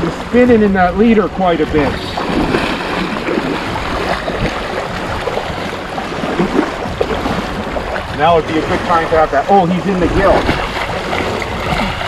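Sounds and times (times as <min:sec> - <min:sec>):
shallow surf washing ashore: 0:00.0 - 0:12.0.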